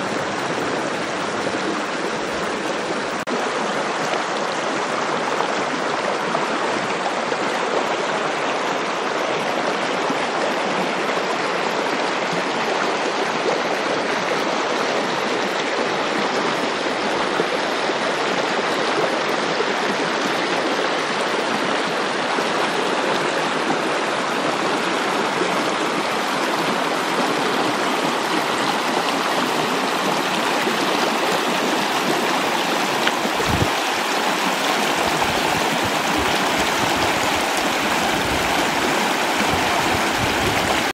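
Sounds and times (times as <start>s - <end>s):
water rushing over a weir: 0.0s - 40.9s.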